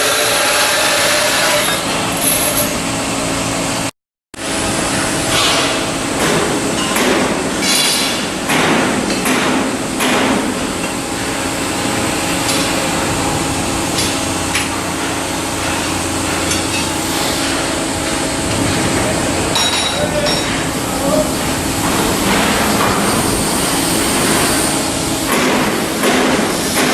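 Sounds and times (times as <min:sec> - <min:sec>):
steady background hum: 0:00.0 - 0:26.9.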